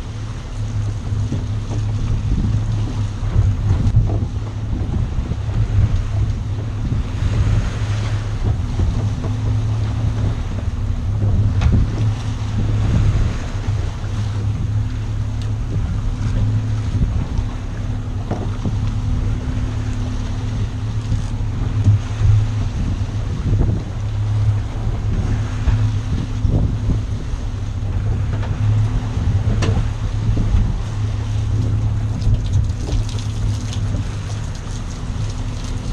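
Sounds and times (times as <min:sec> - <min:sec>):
boat engine droning: 0:00.0 - 0:35.9
water rushing against hull: 0:00.0 - 0:35.9
wind buffeting microphone: 0:00.0 - 0:35.9.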